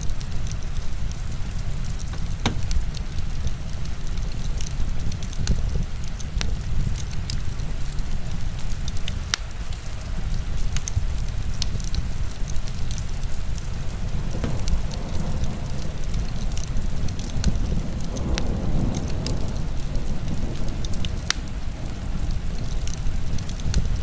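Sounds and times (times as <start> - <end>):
heavy rain: 0.0 - 24.0
wood fire crackling: 0.0 - 24.0.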